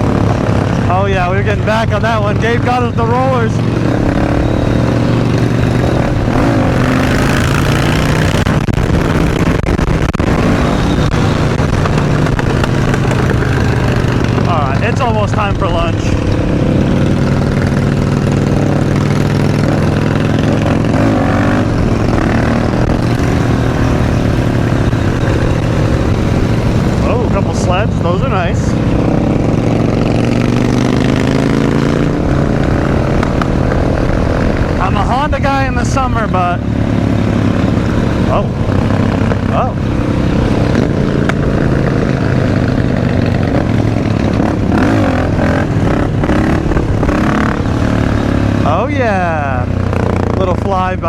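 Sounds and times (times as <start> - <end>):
continuous rush of noise: 0.0 - 51.0
motorcycle engine running: 0.0 - 51.0.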